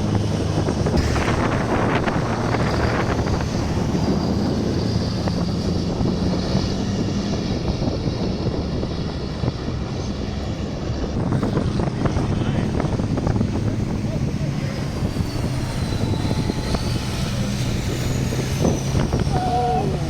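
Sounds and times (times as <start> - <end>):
truck diesel engines droning: 0.0 - 20.0
wind buffeting microphone: 0.0 - 20.0.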